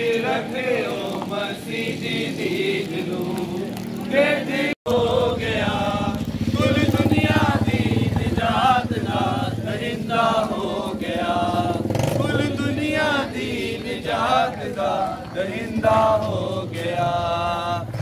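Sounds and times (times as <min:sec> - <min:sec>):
group singing a hymn: 0:00.0 - 0:18.0.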